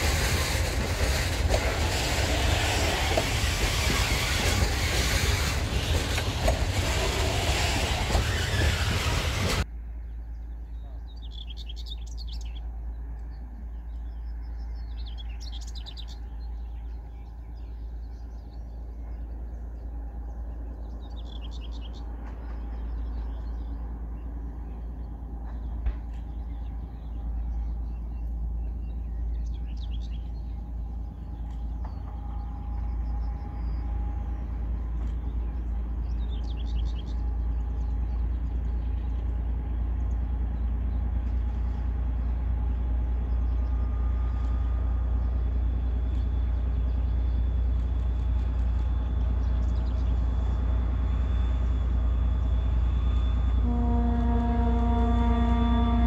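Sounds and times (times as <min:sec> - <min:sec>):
diesel locomotive engine rumble: 0:00.0 - 0:56.0
birds chirping: 0:05.8 - 0:56.0.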